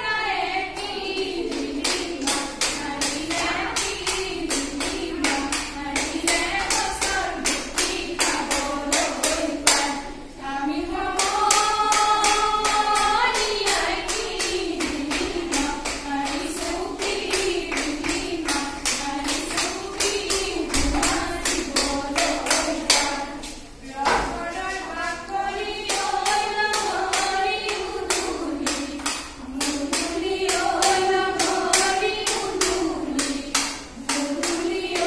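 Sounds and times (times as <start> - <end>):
women singing in unison: 0.0 - 35.0
sharp clapping beat: 0.8 - 10.2, 10.9 - 35.0.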